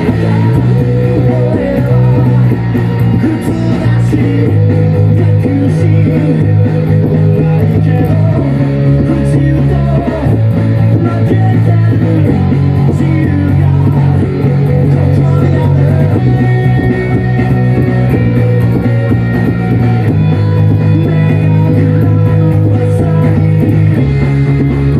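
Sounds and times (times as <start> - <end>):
electric bass playing: 0.0 - 24.9
electric guitar: 0.0 - 24.9
rock band music: 0.0 - 24.9.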